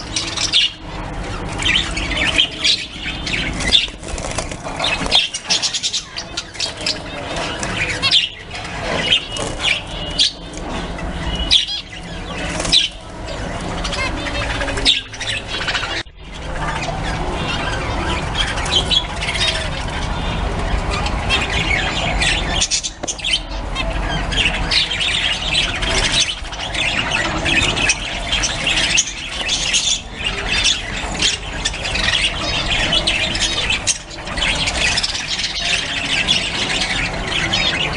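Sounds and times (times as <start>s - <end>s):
budgerigars chattering and squawking: 0.0s - 37.9s.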